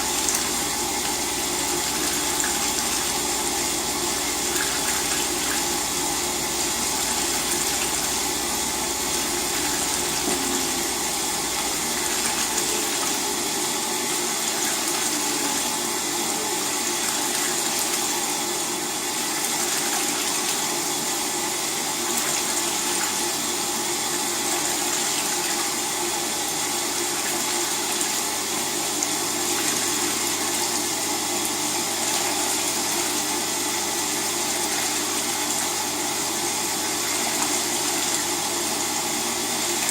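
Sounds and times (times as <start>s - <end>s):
water running through washing machine: 0.0s - 39.9s.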